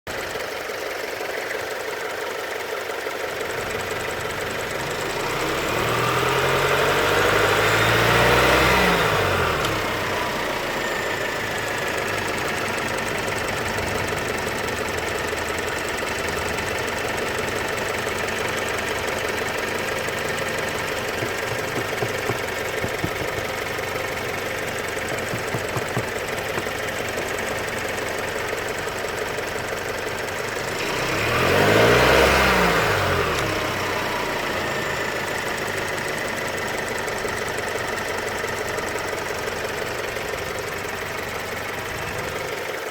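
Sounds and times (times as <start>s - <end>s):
car engine idling and revving: 0.1s - 42.9s
engine rattling and clicking: 0.1s - 42.9s.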